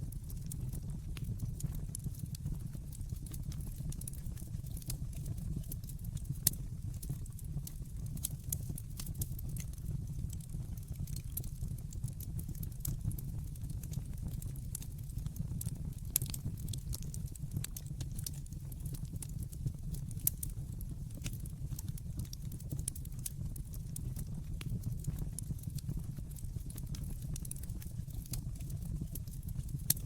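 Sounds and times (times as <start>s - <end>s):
low rumble of burning: 0.0s - 30.0s
wood fire crackling: 0.0s - 30.0s.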